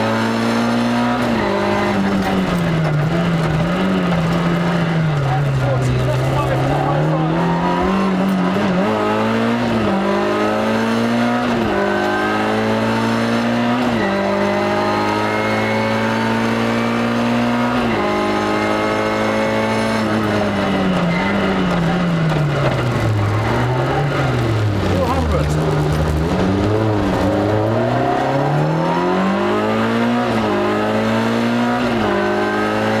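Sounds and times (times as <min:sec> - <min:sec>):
rally car engine at full throttle: 0:00.0 - 0:33.0.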